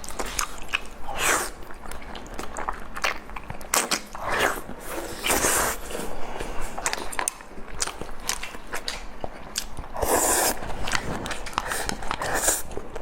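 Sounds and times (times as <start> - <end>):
crunching or slurping: 0.0 - 13.0
person chewing food: 0.0 - 13.0.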